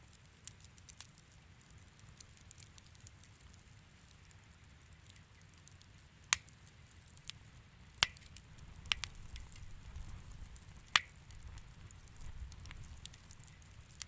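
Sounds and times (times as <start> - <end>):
faint hissing and ticking: 0.0 - 14.0
low rumble of flames: 0.0 - 14.0
wood fire popping and snapping: 0.0 - 14.0.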